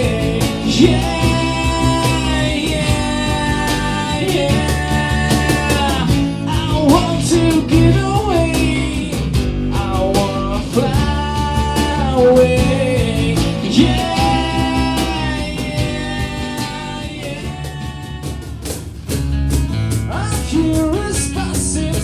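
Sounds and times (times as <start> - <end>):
guitar: 0.0 - 22.0
steady drum beat: 0.0 - 22.0.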